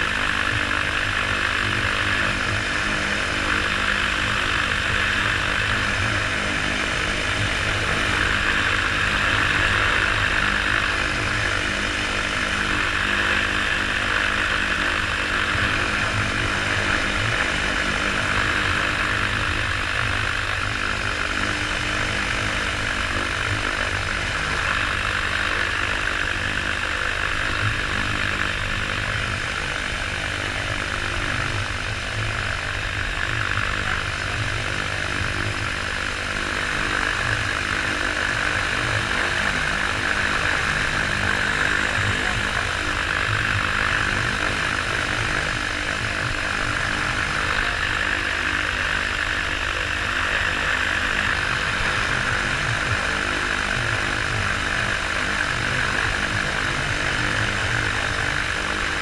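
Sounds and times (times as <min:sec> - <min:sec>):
microlight engine and propeller running: 0:00.0 - 0:59.0.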